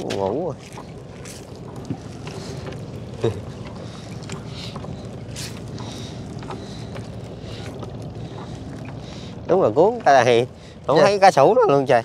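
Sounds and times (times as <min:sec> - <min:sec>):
boat engine hum: 0:00.0 - 0:12.0.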